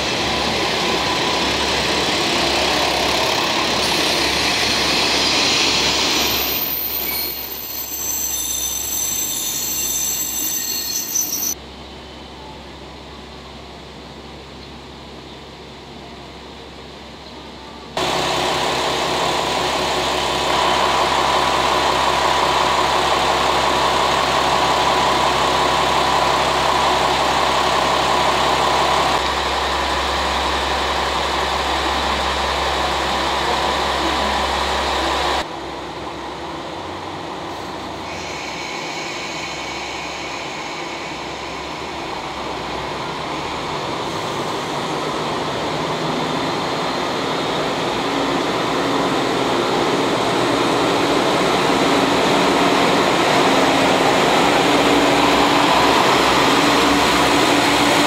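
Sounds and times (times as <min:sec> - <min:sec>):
diesel railcar engines idling: 0:00.0 - 0:58.0.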